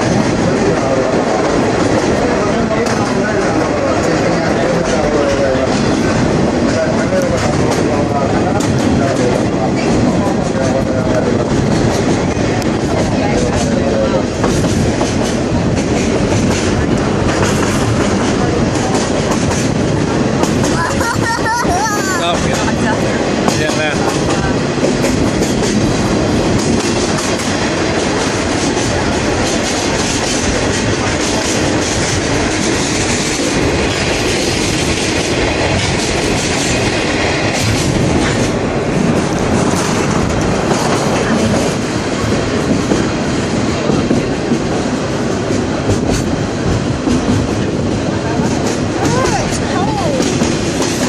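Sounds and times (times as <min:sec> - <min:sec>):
train wheels rumbling and clacking: 0:00.0 - 0:51.0.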